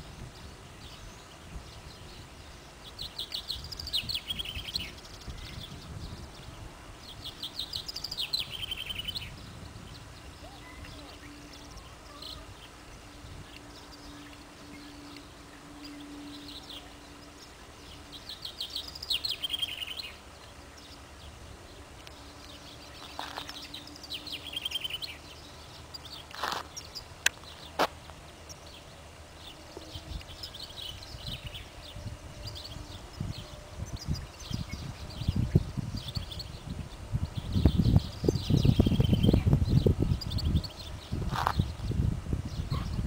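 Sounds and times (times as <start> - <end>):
birds trilling chirps: 0.0 - 43.0
low steady hum: 0.0 - 43.0.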